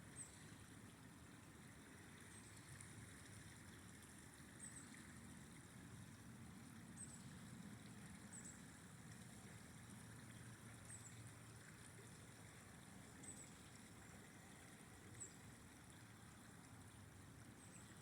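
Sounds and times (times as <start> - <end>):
flowing river: 0.0 - 18.0.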